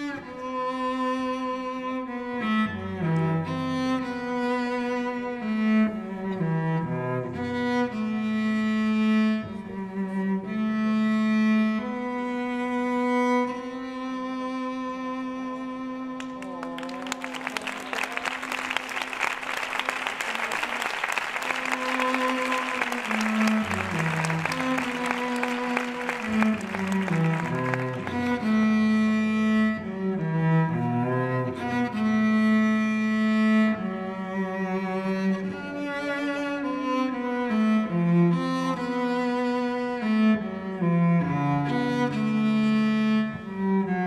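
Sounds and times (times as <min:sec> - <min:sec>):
slow bowed string music: 0:00.0 - 0:16.8, 0:21.3 - 0:44.0.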